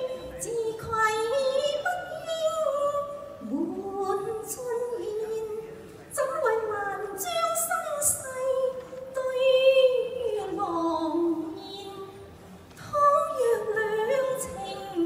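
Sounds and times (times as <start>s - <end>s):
woman singing opera: 0.0s - 5.6s, 6.2s - 12.2s, 12.8s - 15.0s.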